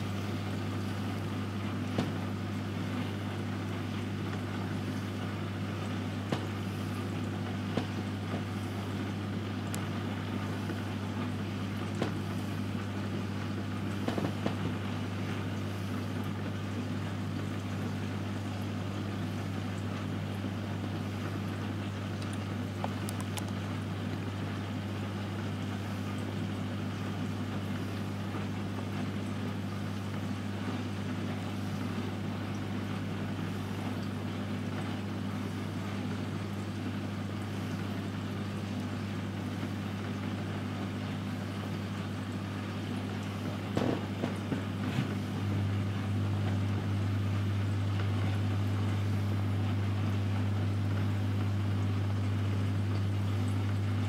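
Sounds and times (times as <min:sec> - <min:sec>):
aquarium pumps humming: 0:00.0 - 0:54.0
moving water: 0:00.0 - 0:54.0.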